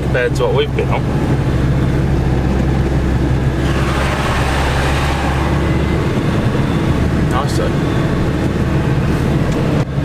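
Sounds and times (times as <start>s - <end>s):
diesel engine running: 0.0s - 10.0s
road noise: 0.0s - 10.0s.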